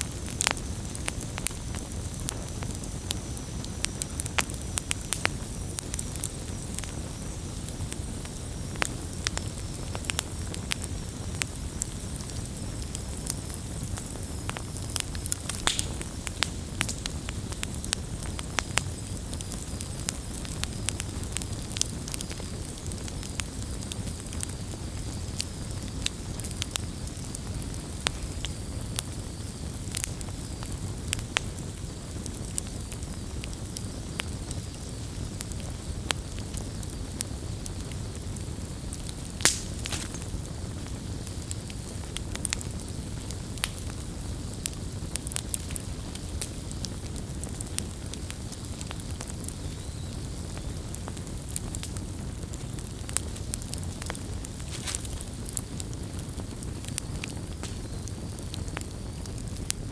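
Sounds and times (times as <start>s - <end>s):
campfire flames rumbling: 0.0s - 59.9s
fire crackling and popping: 0.0s - 59.9s.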